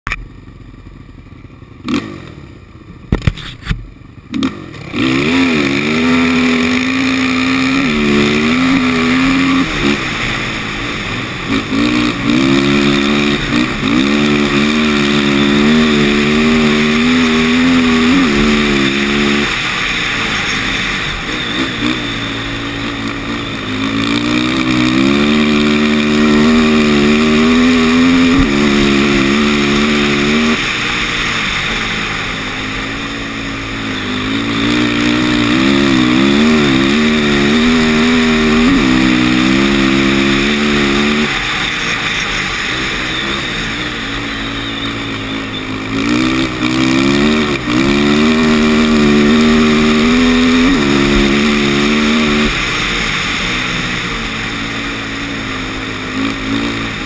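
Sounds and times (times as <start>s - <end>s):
quad engine revving: 1.7s - 57.0s.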